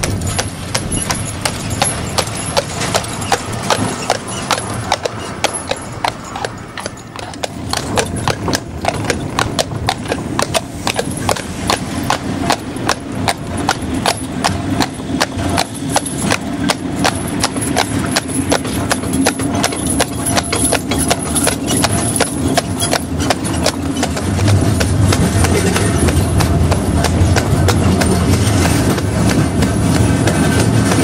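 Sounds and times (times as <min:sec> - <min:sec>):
horse hooves on tarmac: 0:00.0 - 0:31.0
tram wheels rumbling on rails: 0:00.0 - 0:31.0.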